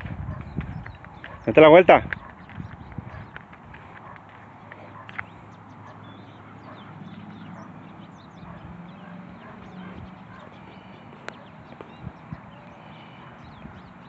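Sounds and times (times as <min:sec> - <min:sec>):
bird chirps: 0:00.4 - 0:03.4, 0:04.8 - 0:14.0.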